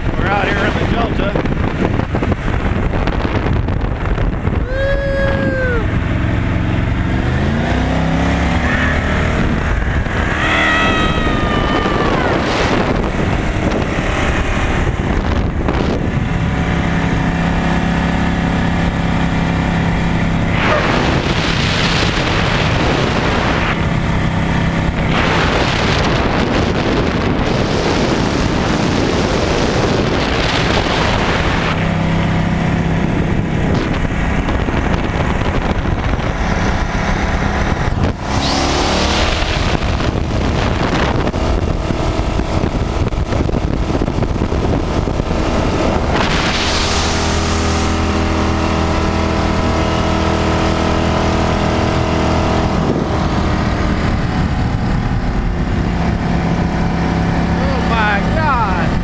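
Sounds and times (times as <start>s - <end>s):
speedboat engine running hard: 0.0s - 59.0s.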